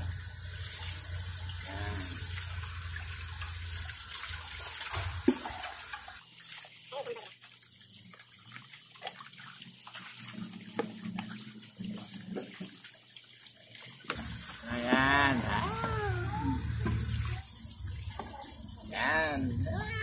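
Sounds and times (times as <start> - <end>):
small splashes: 0.0 - 20.0
water pouring and splashing: 0.0 - 20.0.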